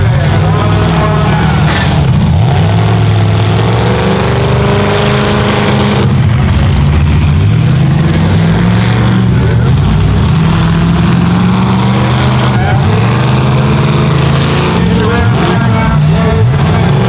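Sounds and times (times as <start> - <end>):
pickup truck engines revving: 0.0 - 17.0.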